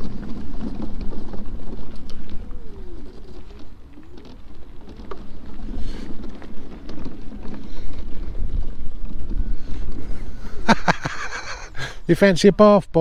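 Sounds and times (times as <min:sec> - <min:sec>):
mobility scooter rumbling over grass: 0:00.0 - 0:13.0
wind buffeting microphone: 0:00.0 - 0:13.0.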